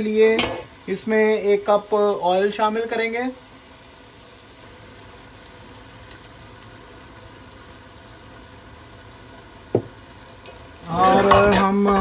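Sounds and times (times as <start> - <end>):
gas stove hum: 0.0 - 12.0.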